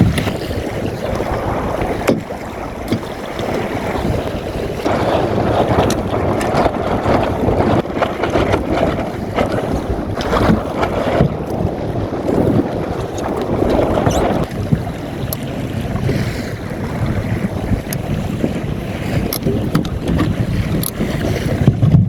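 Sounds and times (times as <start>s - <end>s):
water splashing against hull: 0.0s - 22.0s
wind buffeting microphone: 0.0s - 22.0s.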